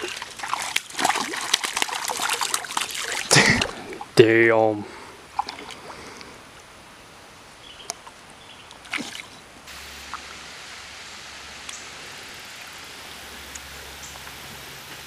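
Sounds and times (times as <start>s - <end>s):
creek water over rocks: 0.0s - 15.0s.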